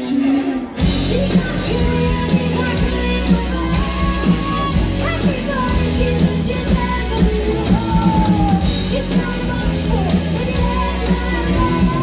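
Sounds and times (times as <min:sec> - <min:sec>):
live rock band playing: 0:00.0 - 0:12.0
woman singing: 0:00.0 - 0:12.0
steady drum beat: 0:00.8 - 0:12.0.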